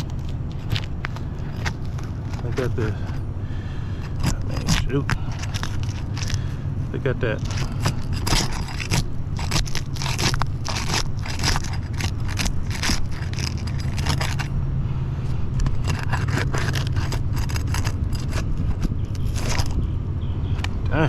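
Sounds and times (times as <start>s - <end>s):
roof shingles scraping and crackling: 0.0s - 14.6s, 15.3s - 19.8s
steady low rumble: 0.0s - 21.0s.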